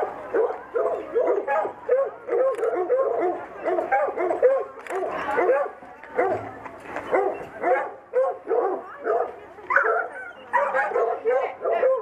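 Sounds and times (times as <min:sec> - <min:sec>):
hounds barking and yelping: 0:00.0 - 0:12.0.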